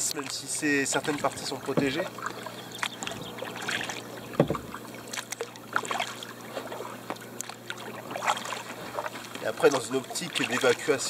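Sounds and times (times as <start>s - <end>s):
paddle splashing and dripping: 0.0s - 11.0s
water lapping at hull: 0.0s - 11.0s.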